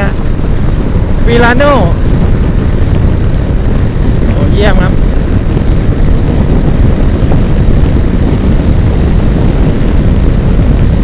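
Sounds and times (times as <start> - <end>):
scooter engine drone: 0.0 - 11.0
wind rush on microphone: 0.0 - 11.0.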